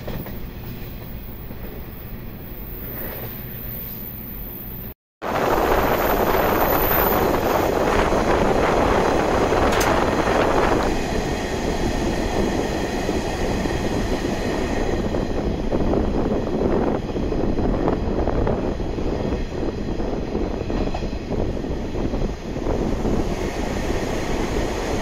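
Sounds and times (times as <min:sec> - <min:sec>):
wheels rolling and rushing air: 0:00.0 - 0:25.0
electric train running: 0:04.4 - 0:25.0.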